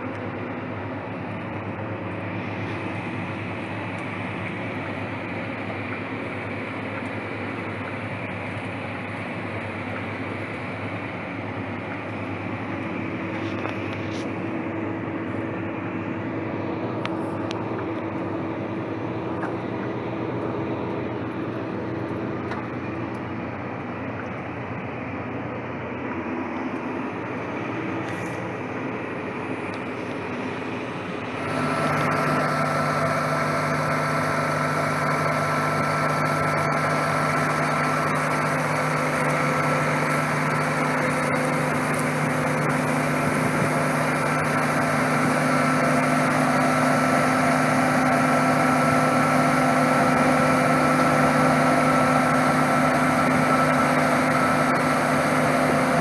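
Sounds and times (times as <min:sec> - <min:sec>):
combine harvester and tractor running: 0:00.0 - 0:56.0
machine whine: 0:00.0 - 0:56.0.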